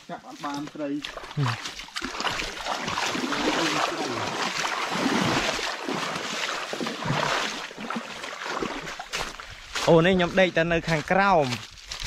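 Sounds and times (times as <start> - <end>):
stream water sloshing and splashing: 0.0 - 12.0.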